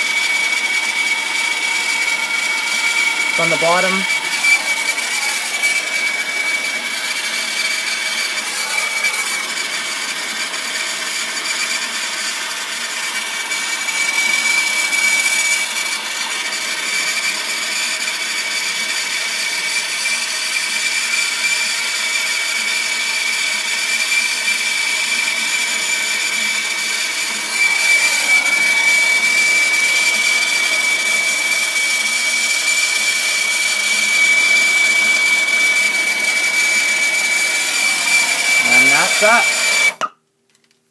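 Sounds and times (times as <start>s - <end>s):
torch flame hissing with whistle: 0.0s - 19.5s, 24.0s - 40.0s.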